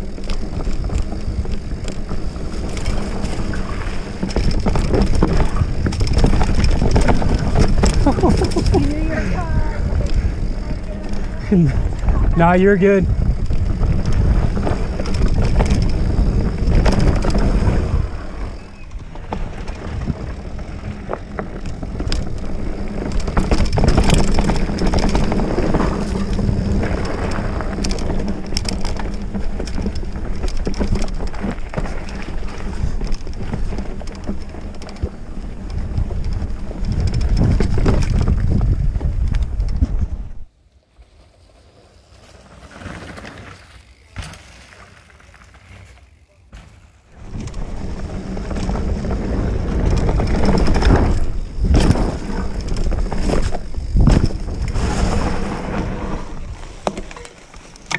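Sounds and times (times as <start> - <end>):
bike clacking and rattling: 0.0 - 40.5, 41.4 - 57.9
wind buffeting microphone: 0.0 - 40.5, 47.2 - 57.9
bike tyres on dirt: 0.0 - 57.9.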